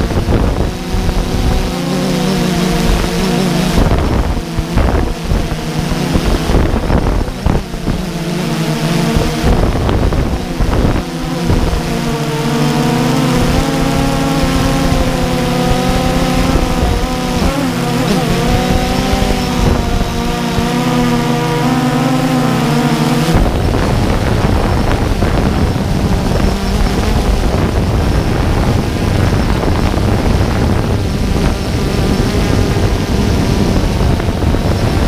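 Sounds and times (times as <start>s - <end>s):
drone propellers buzzing: 0.0s - 35.0s
wind buffeting microphone: 0.0s - 35.0s.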